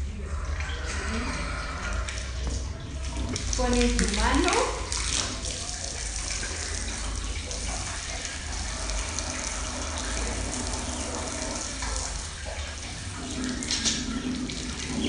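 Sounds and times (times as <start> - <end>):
water splashing from hose: 0.6 - 15.0.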